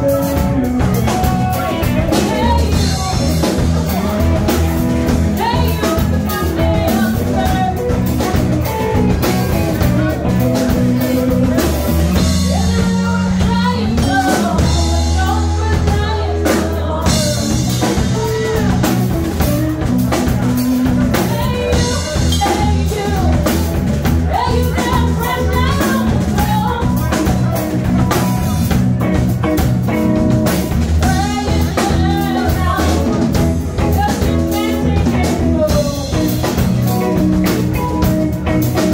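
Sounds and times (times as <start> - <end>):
woman singing: 0.0 - 28.2, 31.0 - 38.8
bass guitar: 0.0 - 38.9
drum kit: 0.0 - 38.9
electric and acoustic guitars: 0.0 - 38.9.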